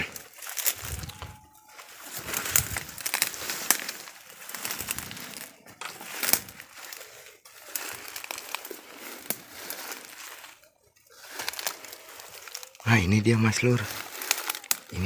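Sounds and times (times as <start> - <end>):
dry leaves and brush rustling: 0.0 - 15.0
twigs snapping: 0.0 - 15.0.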